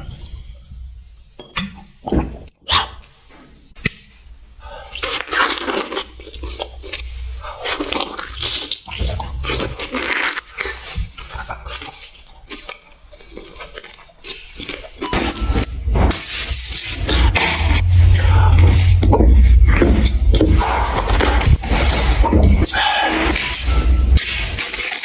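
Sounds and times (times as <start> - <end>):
crunching and chewing food: 4.8 - 25.0.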